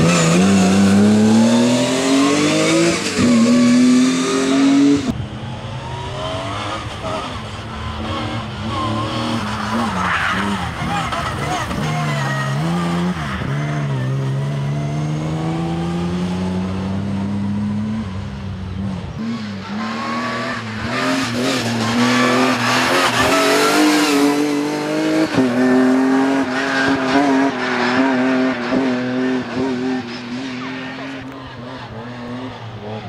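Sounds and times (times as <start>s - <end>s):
rally car engine accelerating: 0.0s - 33.0s
tyre and road noise: 0.0s - 33.0s.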